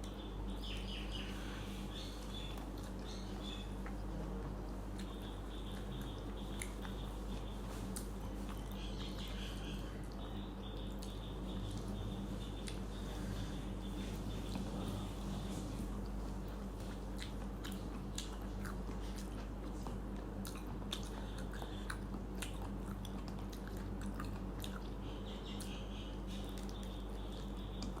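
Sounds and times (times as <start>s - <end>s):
steady low hum: 0.0s - 28.0s
person chewing food: 1.1s - 28.0s.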